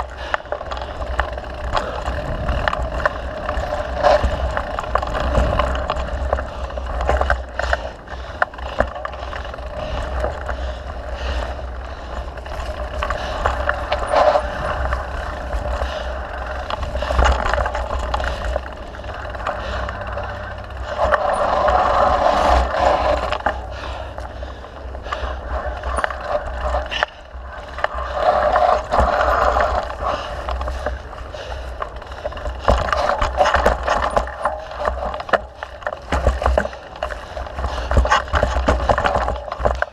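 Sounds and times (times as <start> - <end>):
bike rattles and knocks: 0.0 - 39.9
bike tyre trail noise: 0.0 - 39.9
wind rumble on microphone: 0.0 - 39.9.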